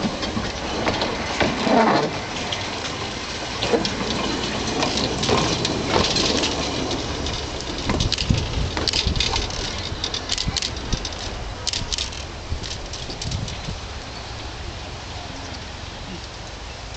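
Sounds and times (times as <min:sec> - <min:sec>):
locomotive knocks and clanks: 0:00.0 - 0:14.0.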